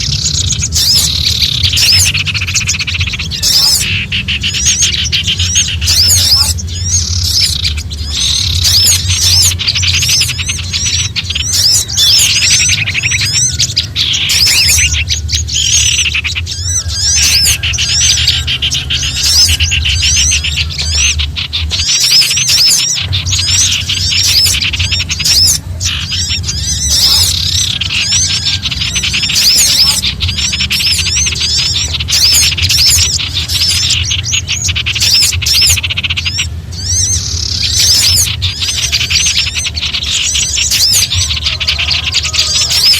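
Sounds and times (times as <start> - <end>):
songbirds alarm calls: 0.0 - 42.9
steady low hum: 0.0 - 42.9.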